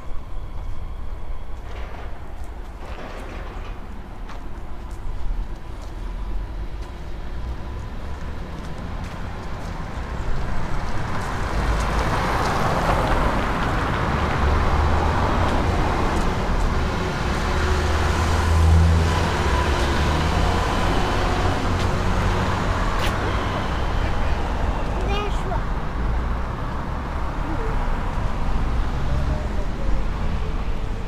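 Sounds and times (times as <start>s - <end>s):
cars passing on road: 0.0s - 31.0s.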